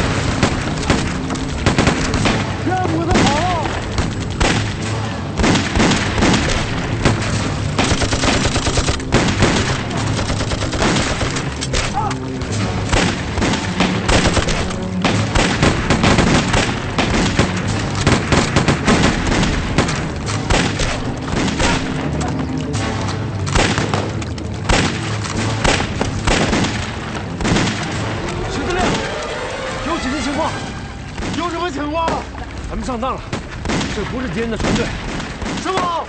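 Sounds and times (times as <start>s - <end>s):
rifle and pistol gunfire: 0.0s - 22.1s, 22.7s - 29.2s, 33.3s - 36.0s.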